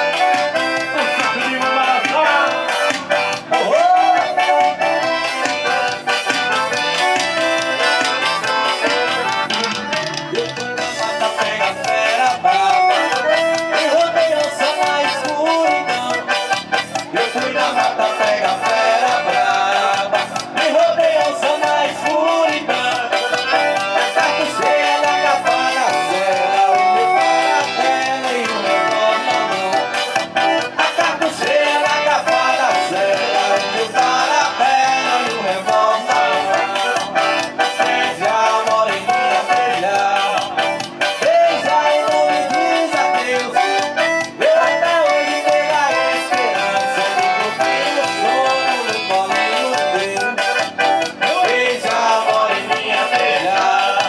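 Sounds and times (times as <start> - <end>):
live band playing dance music: 0.0 - 54.0.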